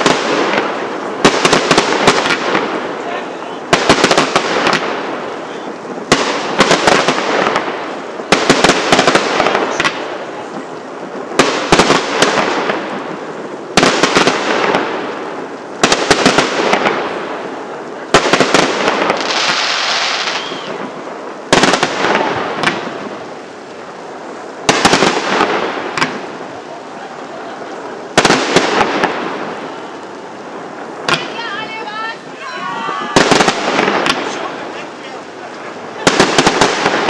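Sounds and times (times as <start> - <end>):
firework shells bursting: 0.0 - 3.0, 3.6 - 31.5, 32.2 - 37.0
crackling and rumbling tail: 0.0 - 31.4, 32.2 - 37.0
hissing crackle: 0.0 - 37.0.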